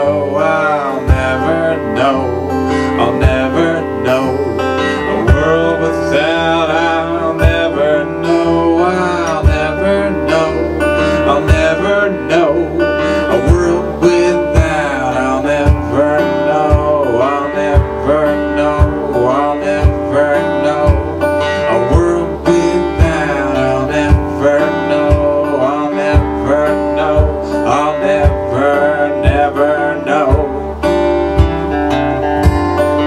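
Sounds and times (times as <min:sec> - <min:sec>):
man singing: 0:00.0 - 0:33.0
strummed acoustic guitar: 0:00.0 - 0:33.0.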